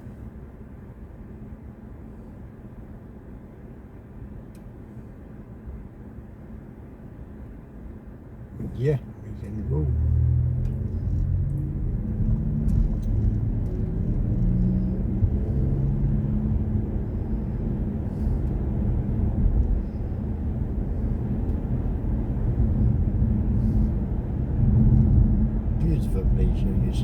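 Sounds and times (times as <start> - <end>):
road and tyre rumble in car: 0.0 - 27.0.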